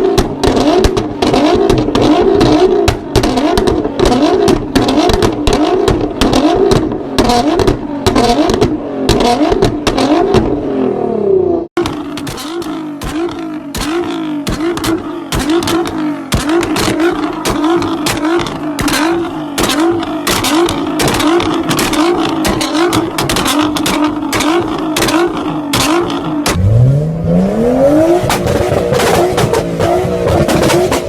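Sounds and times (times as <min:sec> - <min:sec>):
exhaust cracks and pops: 0:00.0 - 0:10.6, 0:11.8 - 0:26.6, 0:28.2 - 0:31.0
car engine revving: 0:00.0 - 0:31.0.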